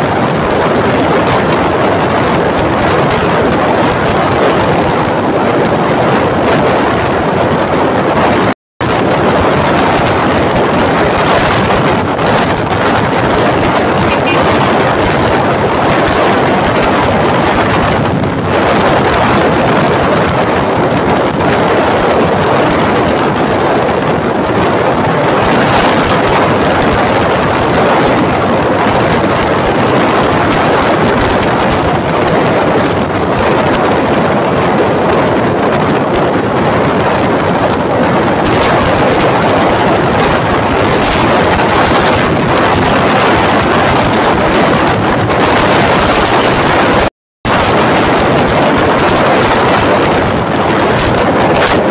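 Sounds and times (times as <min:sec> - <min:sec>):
motorcycle road and engine noise: 0:00.0 - 0:51.9
wind buffeting microphone: 0:00.0 - 0:51.9.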